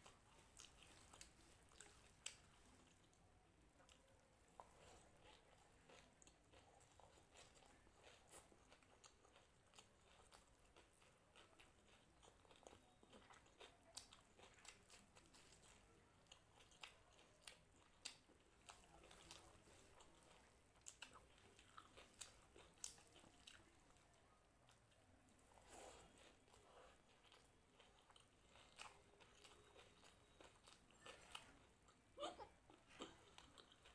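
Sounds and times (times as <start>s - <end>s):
person chewing crunchy food: 0.0s - 3.2s, 3.9s - 24.1s, 24.7s - 33.9s.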